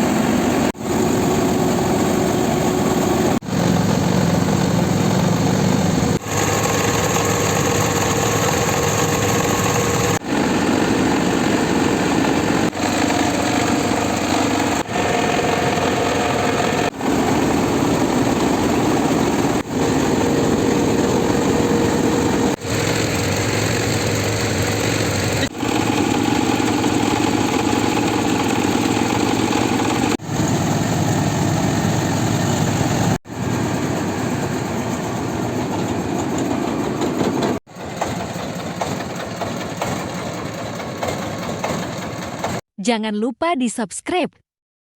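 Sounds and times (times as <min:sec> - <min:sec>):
milling machine engine running: 0:00.0 - 0:42.6.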